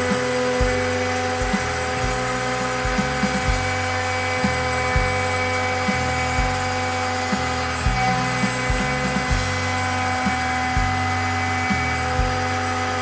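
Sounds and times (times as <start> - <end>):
spindle whine: 0.0 - 13.0
stepper motors humming: 0.0 - 13.0.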